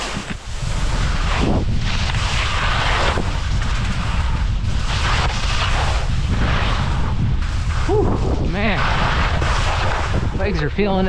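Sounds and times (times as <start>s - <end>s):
skis scraping through snow: 0.0s - 11.0s
wind buffeting microphone: 0.2s - 11.0s.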